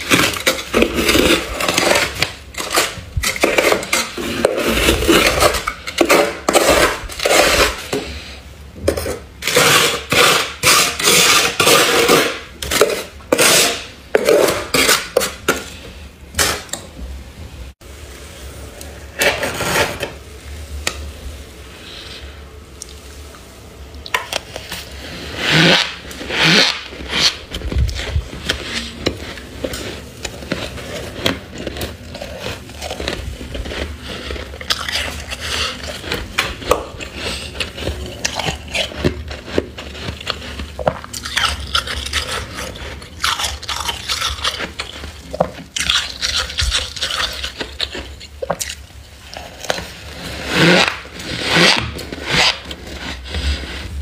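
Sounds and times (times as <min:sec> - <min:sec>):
spoon scraping frost: 0:00.0 - 0:16.8, 0:18.2 - 0:23.4, 0:24.0 - 0:54.0.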